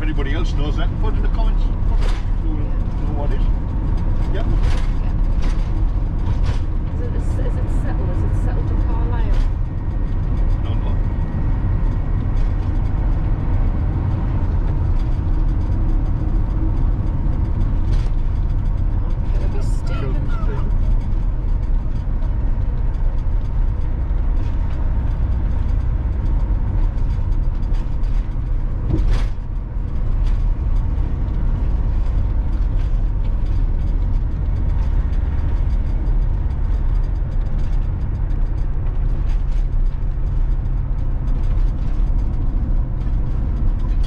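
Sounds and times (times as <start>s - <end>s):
fittings rattling and creaking: 0.0s - 44.0s
road and engine rumble: 0.0s - 44.0s.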